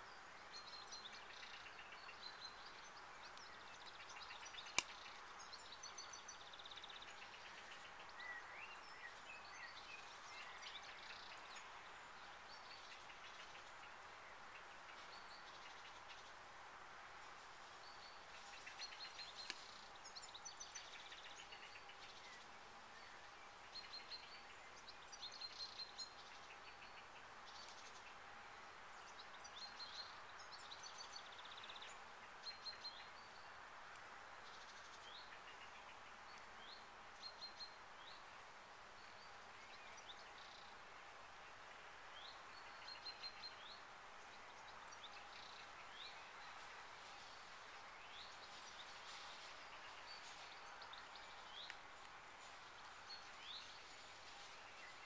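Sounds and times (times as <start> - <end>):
faint steady hiss: 0.0 - 55.0
songbirds chirping: 0.0 - 55.0.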